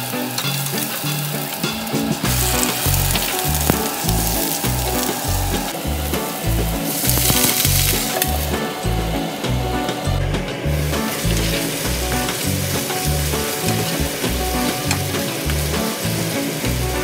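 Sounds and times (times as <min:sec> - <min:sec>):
vegetables sizzling in hot oil: 0:00.0 - 0:17.0
music with pulsing bass line: 0:01.0 - 0:17.0.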